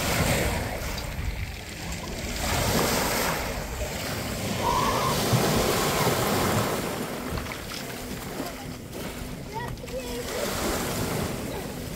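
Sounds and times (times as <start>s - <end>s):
waves washing over pebbles: 0.0s - 11.9s.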